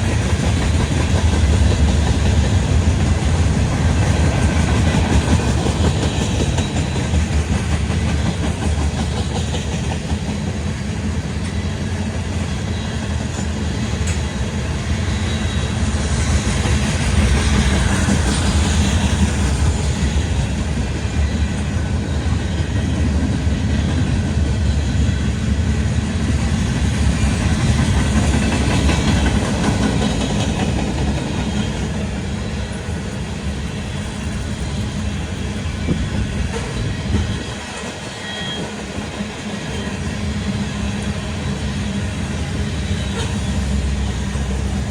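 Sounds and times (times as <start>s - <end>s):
steel wheels rolling on rail: 0.0s - 44.9s.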